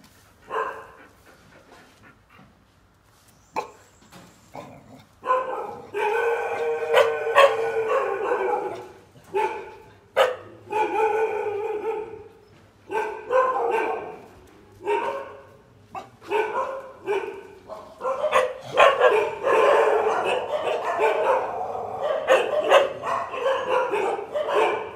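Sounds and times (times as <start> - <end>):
dogs barking: 0.5 - 1.0, 4.6 - 12.3, 12.9 - 24.9.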